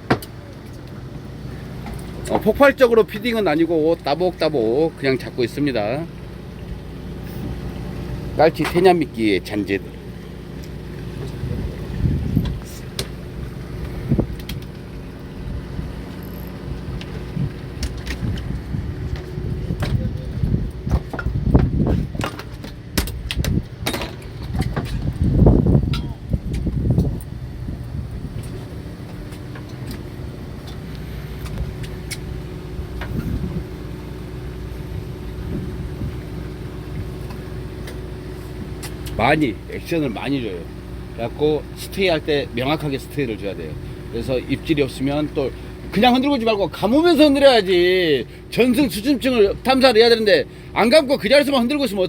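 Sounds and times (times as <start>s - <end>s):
boat machinery humming: 0.0s - 52.0s.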